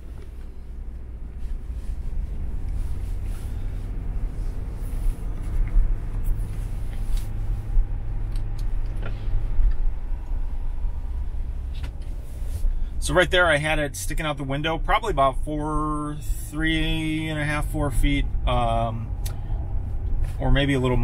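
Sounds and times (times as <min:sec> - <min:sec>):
car road and wind rumble: 0:00.0 - 0:21.0.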